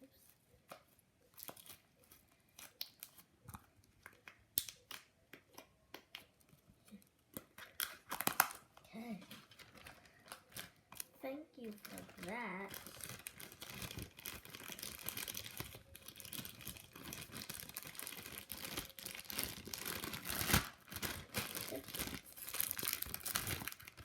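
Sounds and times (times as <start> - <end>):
packaging crinkling and rustling: 0.7 - 4.9, 6.3 - 24.0.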